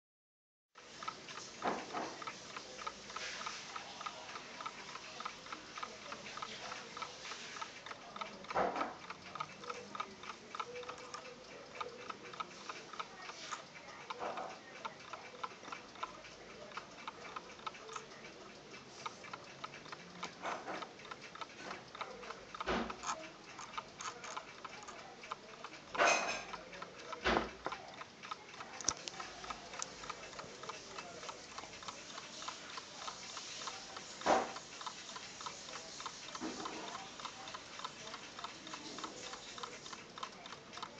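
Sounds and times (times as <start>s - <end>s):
alarm clock ticking: 0.8s - 40.9s.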